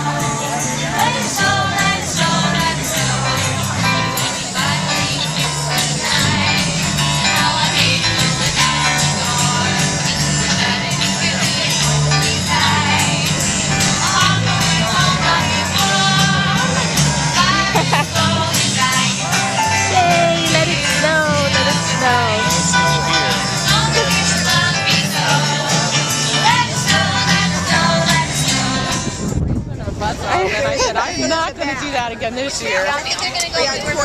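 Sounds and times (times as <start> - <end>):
music with singing and bass: 0.0 - 29.4.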